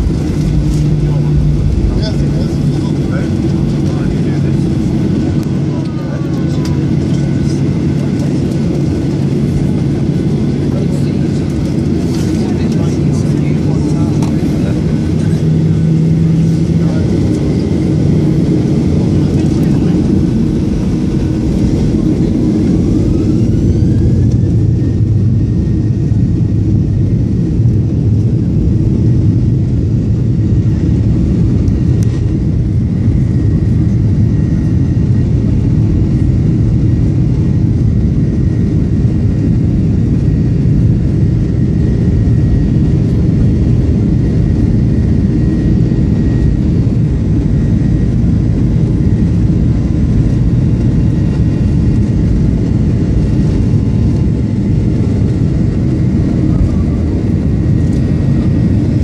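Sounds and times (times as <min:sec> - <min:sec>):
jet engines at takeoff: 0:00.0 - 0:59.0
wheels rumbling on runway: 0:00.0 - 0:59.0.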